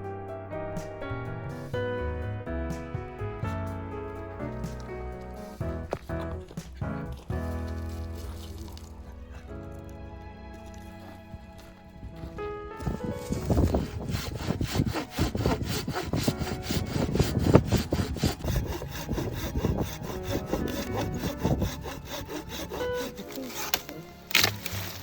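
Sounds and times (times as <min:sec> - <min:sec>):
wood being sawn by hand: 0:04.2 - 0:25.0.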